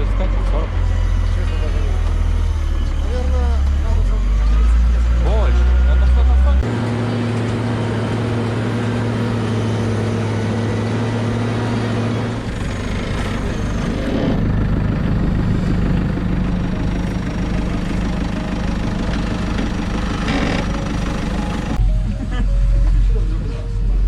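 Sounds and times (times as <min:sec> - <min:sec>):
farm machinery engine running: 0:00.0 - 0:22.0.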